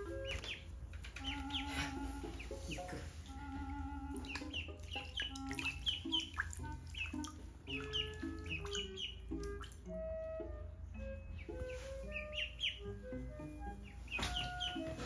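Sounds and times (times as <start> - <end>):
ducklings peeping: 0.0 - 15.0
soft background music: 0.0 - 15.0.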